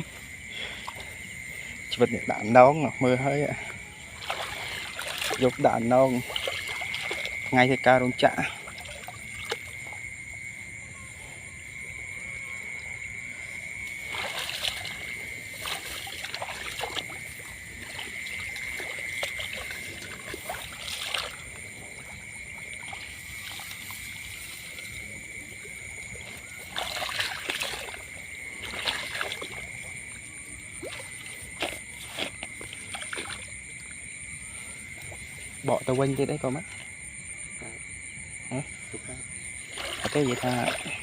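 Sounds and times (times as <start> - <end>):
water splashing: 0.0 - 10.7, 12.2 - 37.0, 39.2 - 41.0.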